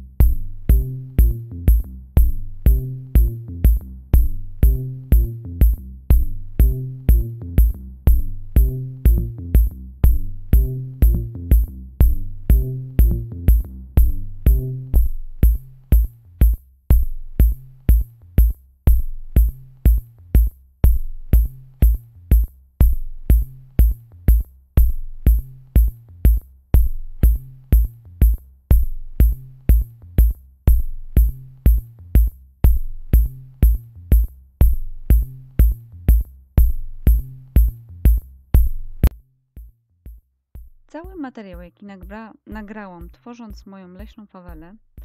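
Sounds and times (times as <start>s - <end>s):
low bass line: 0.0s - 39.2s
ticking hi-hat: 0.0s - 44.7s
drum machine beat: 0.0s - 45.0s.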